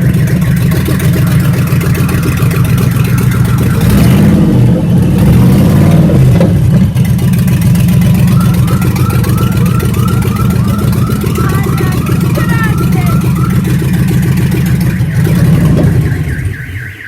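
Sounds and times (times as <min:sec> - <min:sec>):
car engine deep exhaust: 0:00.0 - 0:17.0.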